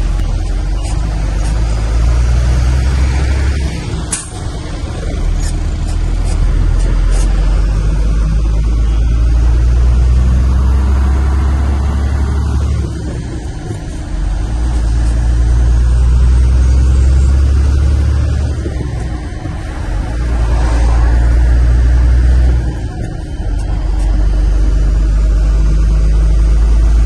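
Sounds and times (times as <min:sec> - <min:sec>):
road noise: 0:00.0 - 0:27.0
truck engine drone: 0:00.0 - 0:27.0.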